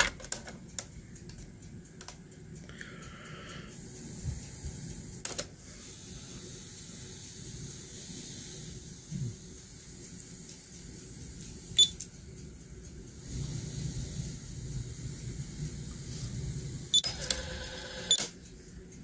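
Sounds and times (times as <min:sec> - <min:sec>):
tape hiss: 0:00.0 - 0:19.0.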